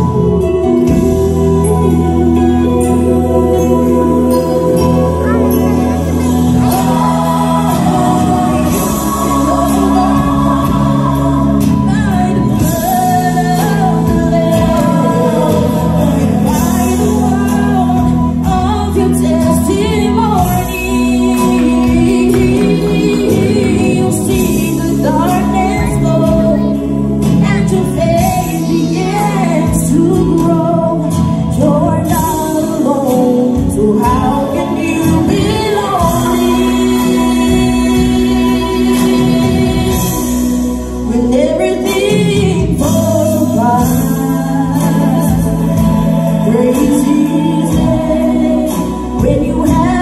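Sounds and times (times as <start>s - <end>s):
drum kit with cymbals: 0.0s - 50.0s
keyboard chords: 0.0s - 50.0s
woman singing into microphone: 0.0s - 50.0s.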